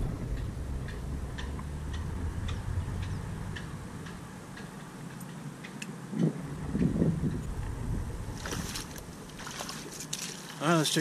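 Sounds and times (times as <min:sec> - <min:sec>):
wind rumble on microphone: 0:00.0 - 0:04.9, 0:06.0 - 0:10.0.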